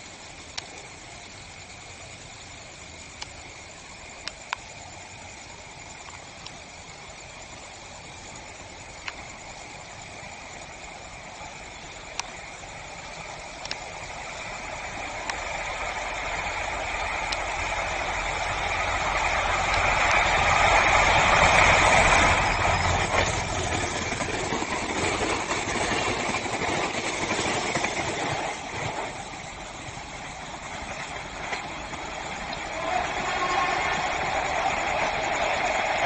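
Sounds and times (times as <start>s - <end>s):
train passing: 0.0s - 36.0s.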